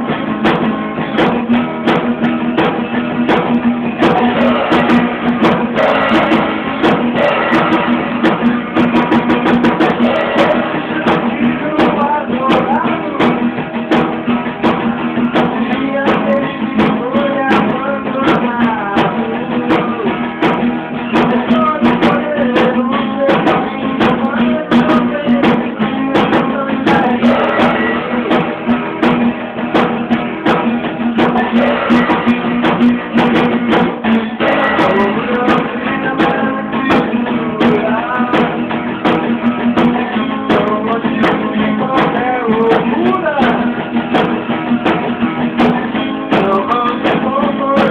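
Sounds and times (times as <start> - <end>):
guitar strummed quickly: 0.0 - 47.9
live band playing: 0.0 - 47.9.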